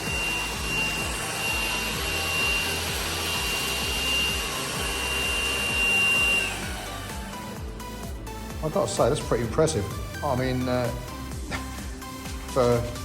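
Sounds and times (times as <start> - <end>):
stick vacuum motor whine: 0.0 - 13.0.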